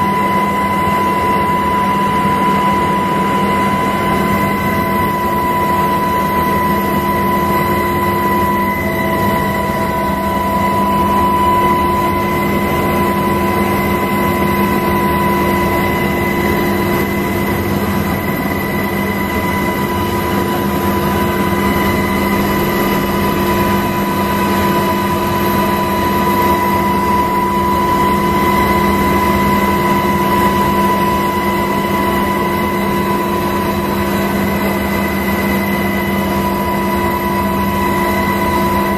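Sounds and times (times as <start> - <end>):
aircraft engine drone: 0.0 - 38.9.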